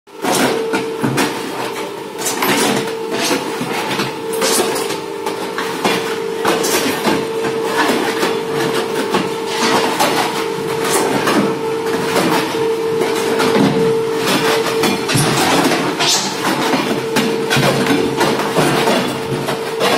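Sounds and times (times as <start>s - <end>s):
machinery humming: 0.1s - 19.9s
machinery clattering and knocking: 2.2s - 19.9s.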